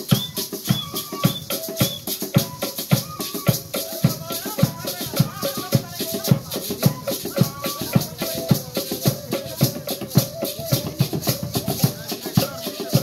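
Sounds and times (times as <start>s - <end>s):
flute melody: 0.0s - 13.0s
rattle shaking: 0.0s - 13.0s
wooden hand drum beating: 0.0s - 13.0s.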